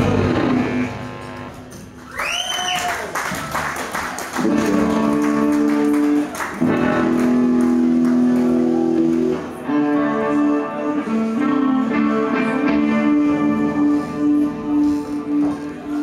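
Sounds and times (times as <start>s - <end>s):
electric guitar chords: 0.0s - 2.0s, 4.3s - 16.0s.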